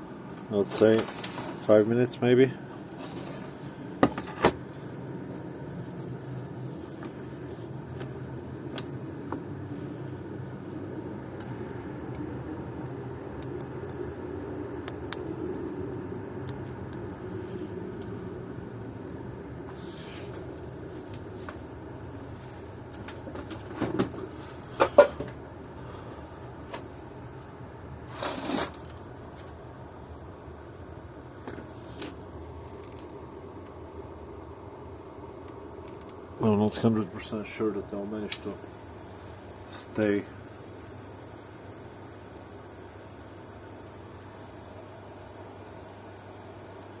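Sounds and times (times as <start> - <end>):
heater fan whirring: 0.0 - 47.0.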